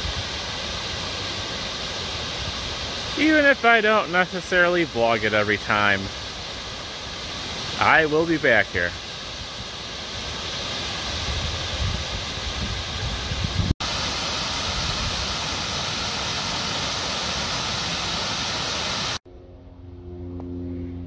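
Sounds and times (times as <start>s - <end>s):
waterfall rushing: 0.0s - 19.2s.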